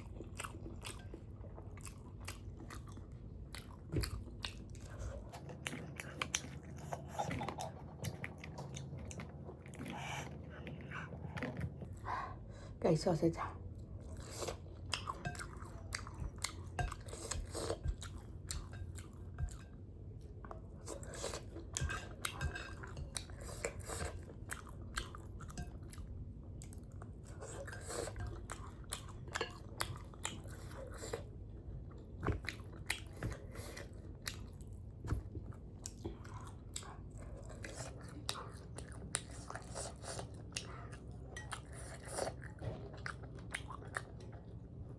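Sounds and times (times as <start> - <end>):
person chewing food: 0.0 - 12.5, 13.6 - 44.9.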